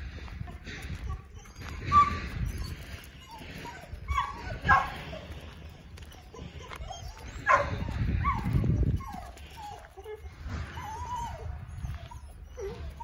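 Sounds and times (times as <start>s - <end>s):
puppy whining and yipping: 0.5s - 13.0s.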